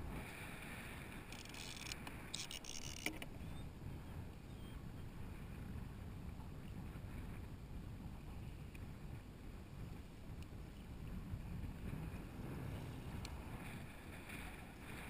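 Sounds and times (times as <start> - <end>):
wind on microphone: 0.0 - 15.0
water lapping against kayak hull: 0.1 - 15.0.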